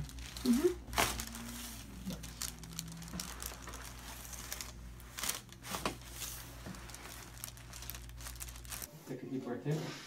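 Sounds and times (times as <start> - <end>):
rustling on treatment table: 0.1 - 8.9.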